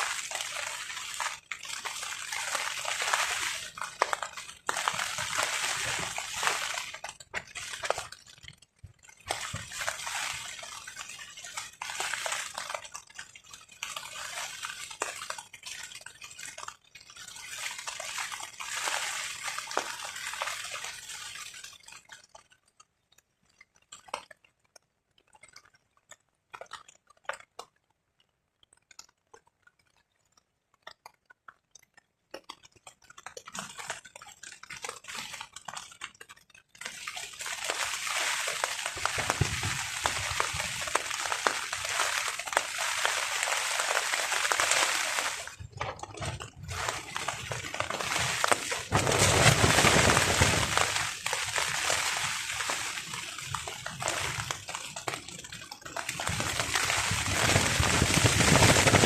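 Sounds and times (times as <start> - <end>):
rain drumming on a tarp: 0.0 - 22.5, 32.3 - 59.0.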